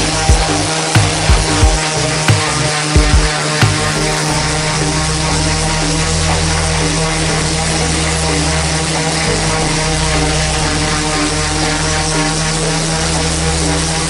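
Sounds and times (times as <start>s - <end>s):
orbital sander motor hum: 0.0s - 14.0s.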